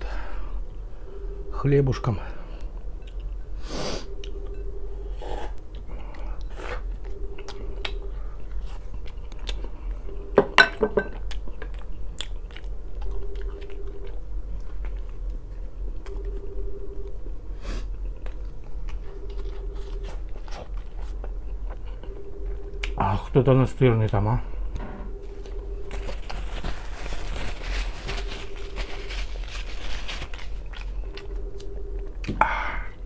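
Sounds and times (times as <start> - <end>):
man chewing food: 2.6 - 10.4, 11.1 - 23.0, 24.7 - 33.0.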